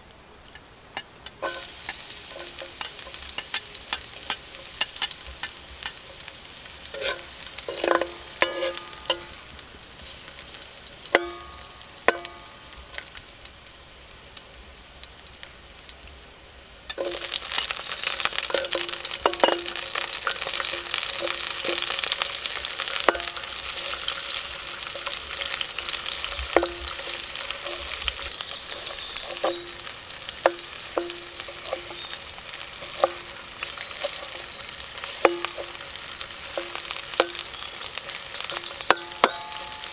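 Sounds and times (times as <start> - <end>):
food sizzling in oil: 0.2 - 39.9
metal spatula scraping wok: 0.5 - 13.1, 16.9 - 39.9.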